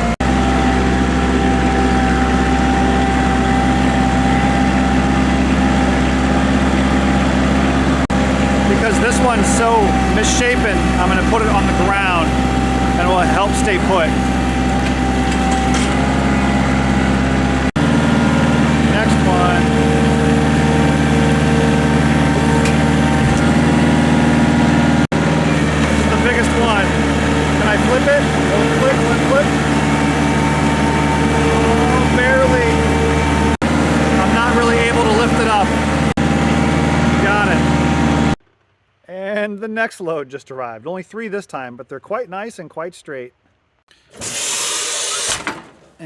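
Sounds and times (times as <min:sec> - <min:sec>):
diesel engine running: 0:00.0 - 0:38.4.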